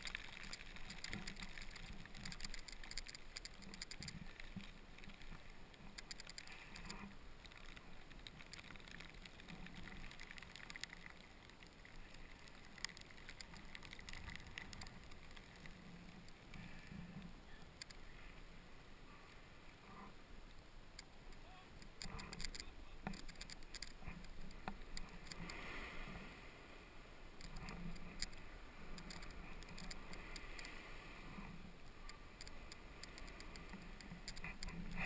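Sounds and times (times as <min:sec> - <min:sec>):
small snow crackles: 0:00.0 - 0:35.0.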